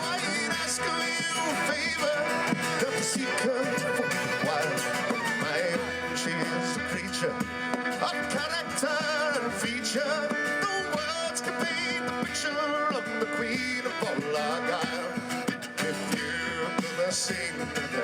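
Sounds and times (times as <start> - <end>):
instrumental folk music: 0.0 - 18.0.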